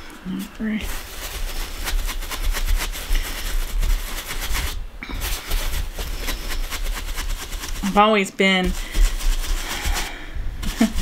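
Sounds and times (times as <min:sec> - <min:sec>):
stencil brush dabbing on cloth: 0:00.0 - 0:11.0.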